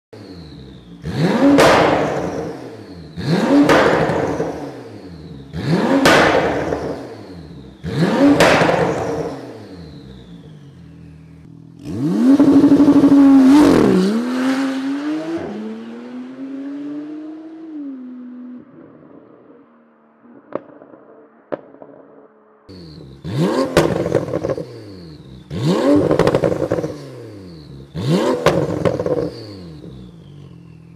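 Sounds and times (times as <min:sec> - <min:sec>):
car engine revving: 0:00.1 - 0:30.9
exhaust crack: 0:00.2 - 0:14.2, 0:20.2 - 0:30.9
car pulling away: 0:00.2 - 0:21.1, 0:22.7 - 0:30.9.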